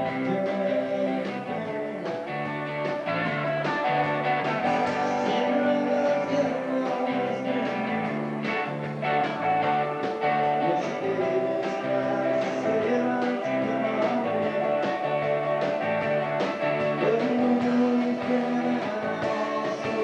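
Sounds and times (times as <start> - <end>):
band playing rock music: 0.0 - 20.0.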